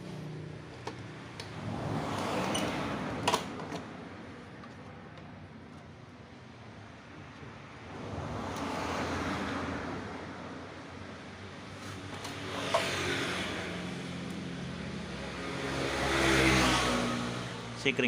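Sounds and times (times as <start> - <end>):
motor vehicles passing: 0.0 - 18.0.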